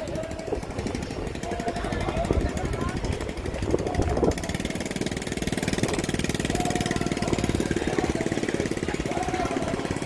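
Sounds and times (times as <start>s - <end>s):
engine puttering: 0.0s - 10.0s.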